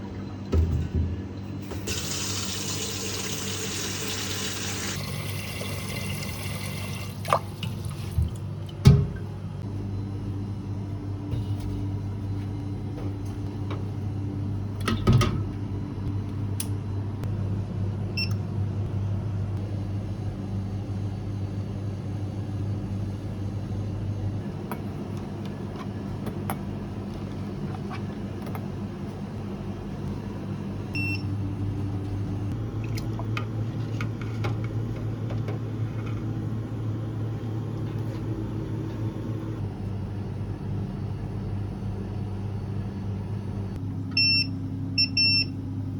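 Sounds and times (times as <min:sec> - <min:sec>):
low electrical hum: 0:00.0 - 0:45.9.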